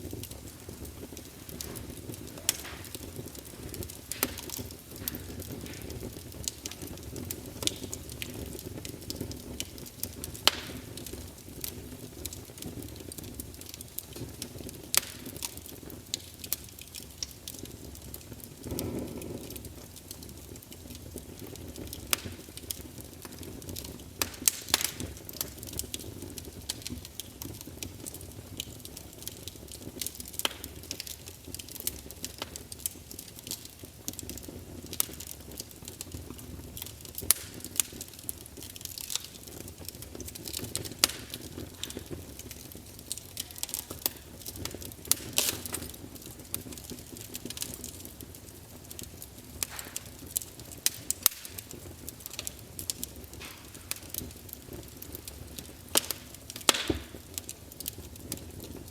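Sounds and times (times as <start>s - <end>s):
burning wood crackling and popping: 0.0s - 58.9s
campfire flames rushing: 0.0s - 58.9s.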